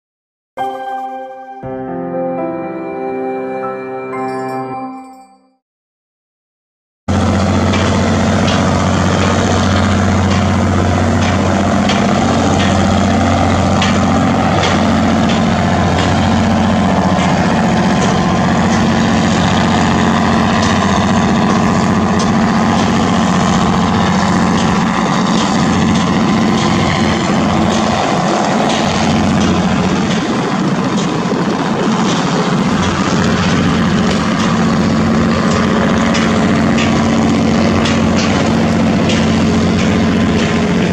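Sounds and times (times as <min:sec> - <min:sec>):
boat diesel engine drone: 0:07.1 - 0:40.9.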